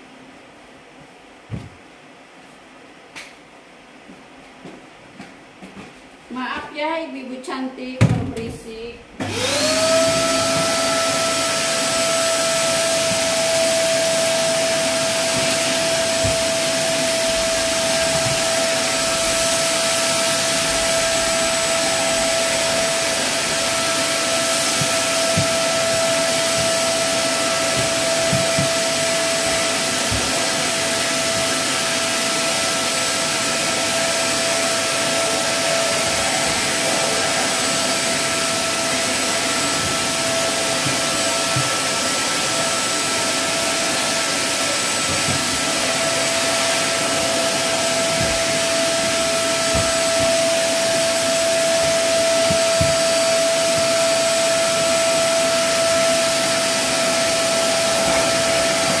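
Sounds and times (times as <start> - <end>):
vacuum cleaner running: 7.8 - 59.0.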